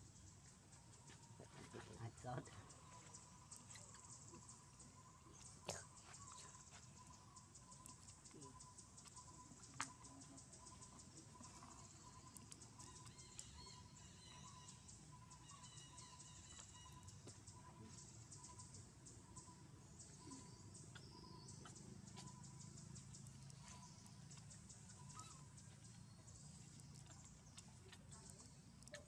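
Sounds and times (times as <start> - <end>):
faint chirps: 0.0 - 29.0
faint outdoor ambience: 0.0 - 29.0
soft high-pitched ticking: 2.0 - 29.0.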